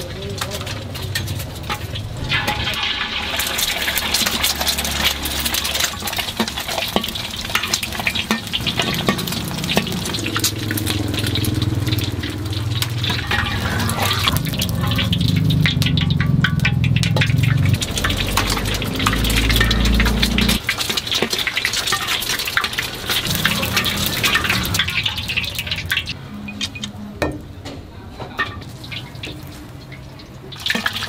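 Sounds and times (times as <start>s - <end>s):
eggs frying in hot oil: 0.0s - 26.9s, 28.6s - 31.0s
low steady rumble: 0.6s - 20.6s, 22.9s - 30.0s.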